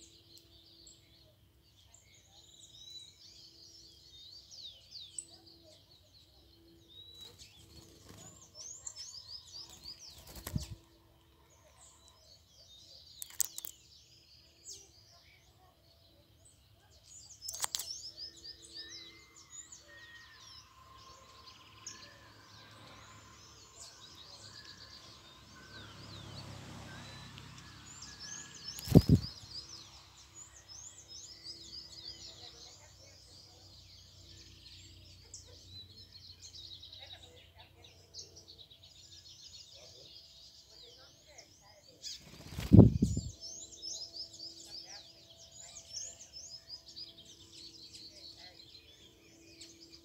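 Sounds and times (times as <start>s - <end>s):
songbirds chirping and singing: 0.0s - 50.0s.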